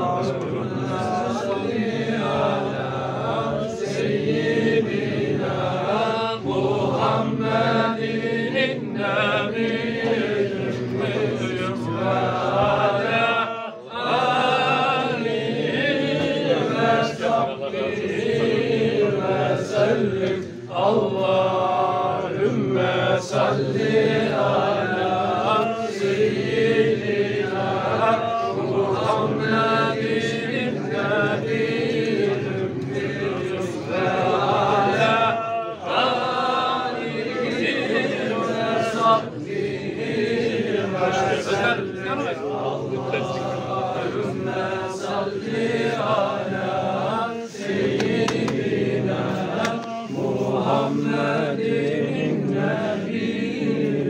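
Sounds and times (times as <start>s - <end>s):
men chanting together: 0.0s - 54.0s.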